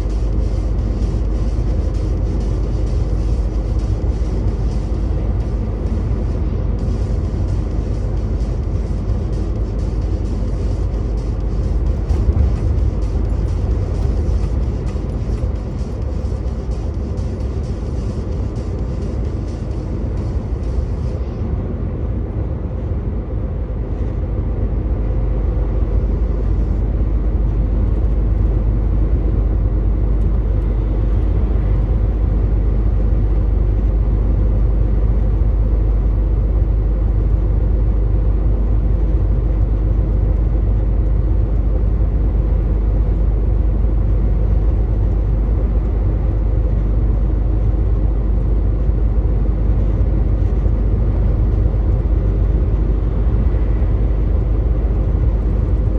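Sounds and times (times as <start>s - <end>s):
truck engine running: 0.0s - 55.9s
tyre and road noise: 0.0s - 55.9s.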